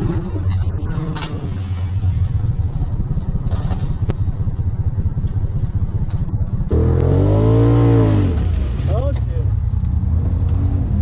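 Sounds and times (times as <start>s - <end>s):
utility vehicle engine running: 0.0s - 10.7s.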